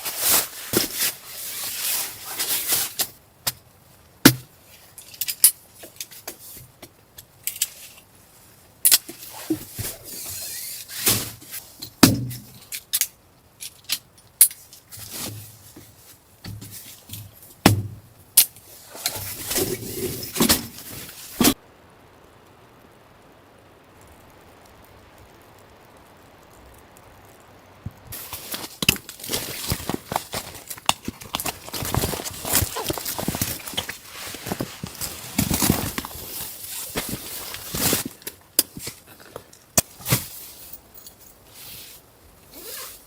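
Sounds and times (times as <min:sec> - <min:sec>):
rustling and scraping: 0:00.0 - 0:03.6, 0:04.4 - 0:13.0, 0:13.6 - 0:21.6, 0:28.1 - 0:43.0.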